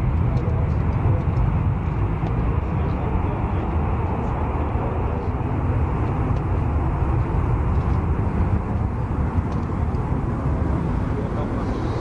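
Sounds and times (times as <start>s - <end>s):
jet engines at full afterburner: 0.0s - 12.0s.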